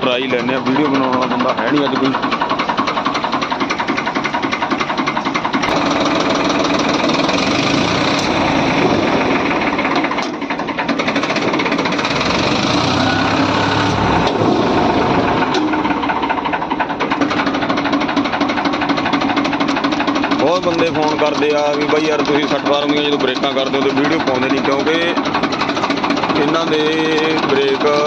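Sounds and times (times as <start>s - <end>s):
tractor diesel engine clattering: 0.0s - 28.0s.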